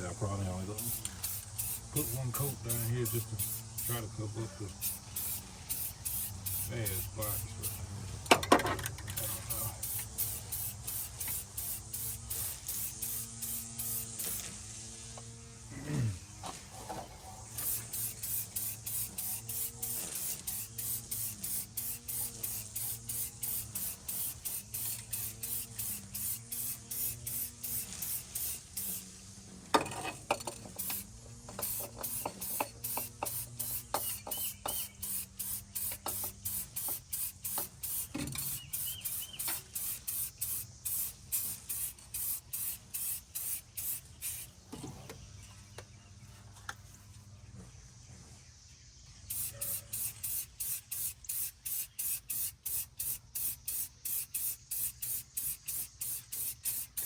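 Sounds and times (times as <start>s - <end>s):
spray paint can hissing: 0.0s - 15.0s, 17.4s - 29.4s, 30.3s - 44.6s, 49.3s - 57.0s.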